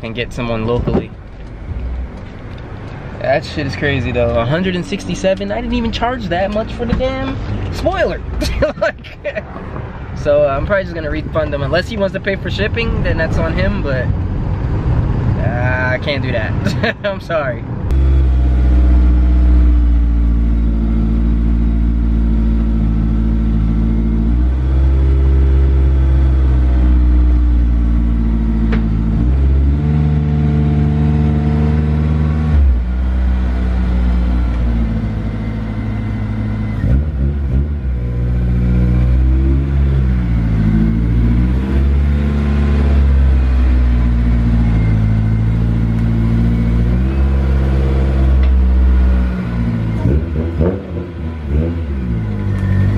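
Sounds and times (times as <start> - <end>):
car engine running at low revs: 0.0 - 52.9.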